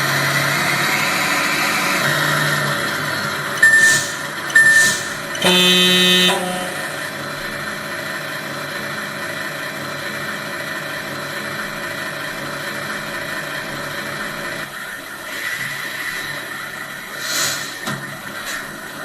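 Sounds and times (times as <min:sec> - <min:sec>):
simulated diesel engine running: 0:00.0 - 0:19.0.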